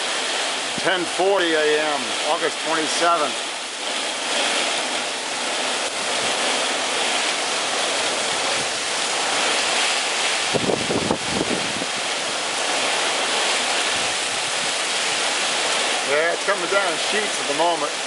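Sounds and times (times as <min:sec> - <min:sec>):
heavy rain: 0:00.0 - 0:18.0
wind: 0:00.0 - 0:18.0
wind gust rumbling on microphone: 0:00.0 - 0:18.0.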